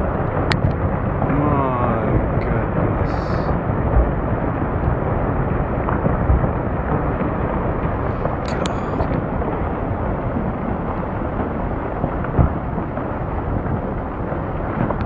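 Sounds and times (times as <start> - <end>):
earth and rock rumbling down slope: 0.0 - 15.0.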